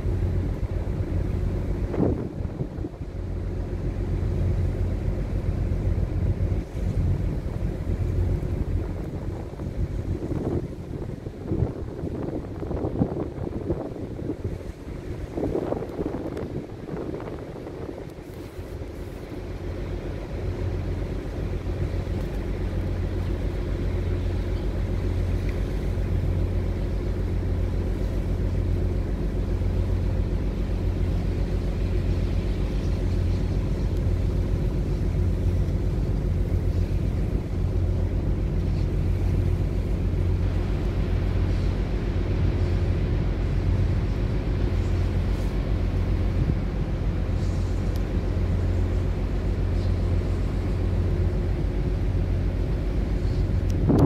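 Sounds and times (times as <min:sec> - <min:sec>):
ship diesel engine drone: 0:00.0 - 0:54.0.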